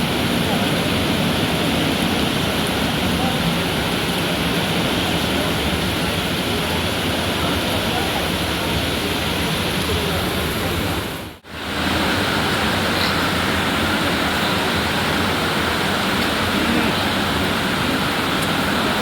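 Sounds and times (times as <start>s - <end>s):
train running in heavy rain: 0.0s - 19.0s.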